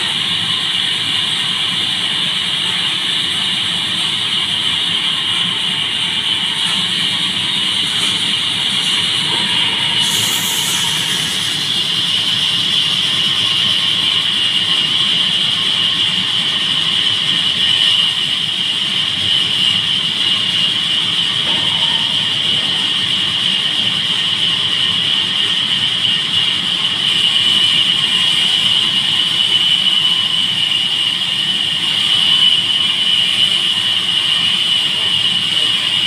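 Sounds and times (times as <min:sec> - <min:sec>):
band saw whining through log: 0:00.0 - 0:36.0.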